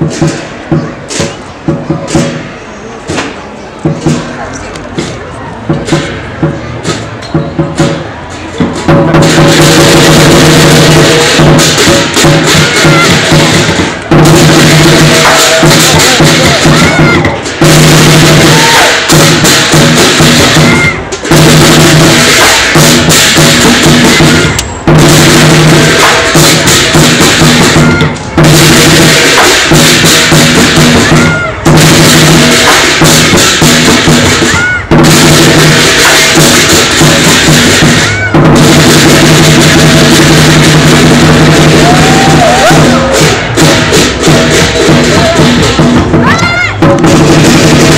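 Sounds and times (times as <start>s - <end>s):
gongs and cymbals: 0.0s - 47.9s
lion drum pounding: 0.0s - 47.9s.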